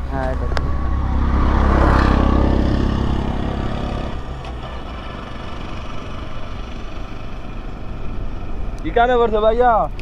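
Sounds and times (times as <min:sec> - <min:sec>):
motorcycle engine running: 0:00.0 - 0:08.7
road and wind noise: 0:00.0 - 0:10.0.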